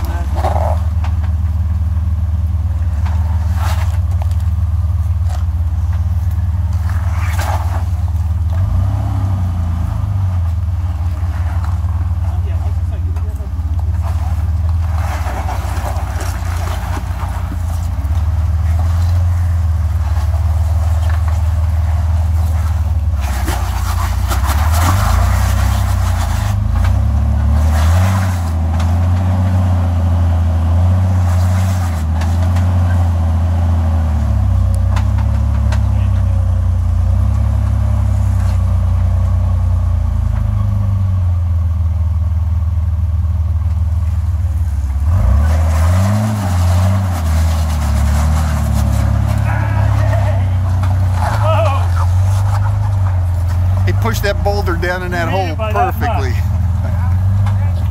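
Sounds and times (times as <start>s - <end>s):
rough rumbling noise: 0.0s - 40.6s, 43.2s - 57.9s
off-road vehicle engine at low revs: 0.0s - 57.9s.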